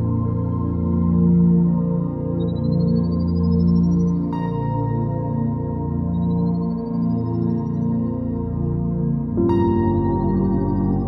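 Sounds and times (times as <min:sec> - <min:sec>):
calm ambient music: 0:00.0 - 0:11.0.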